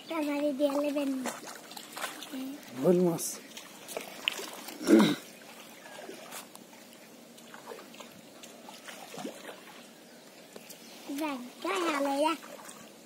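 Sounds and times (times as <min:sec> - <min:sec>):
pond water trickling: 0:00.0 - 0:13.0.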